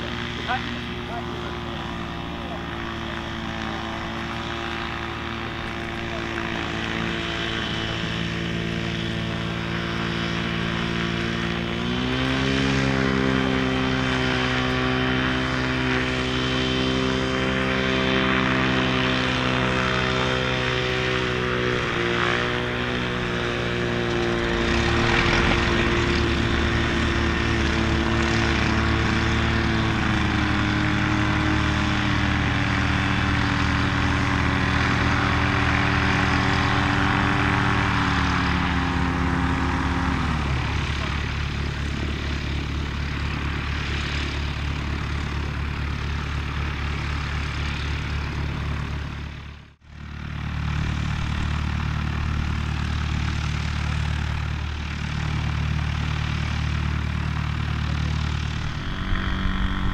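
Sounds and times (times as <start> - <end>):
propeller engine running: 0.0 - 59.9.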